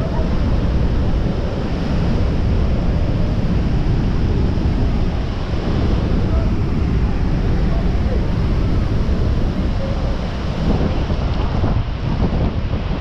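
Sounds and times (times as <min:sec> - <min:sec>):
churning water: 0:00.0 - 0:13.0
waterfall roaring: 0:00.0 - 0:13.0
wind buffeting microphone: 0:00.0 - 0:13.0.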